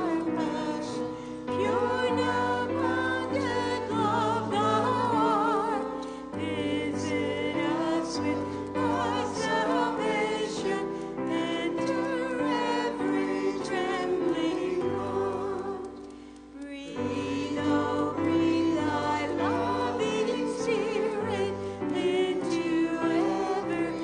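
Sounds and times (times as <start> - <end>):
congregation singing a hymn: 0.0 - 24.0
held instrumental accompaniment: 0.0 - 24.0.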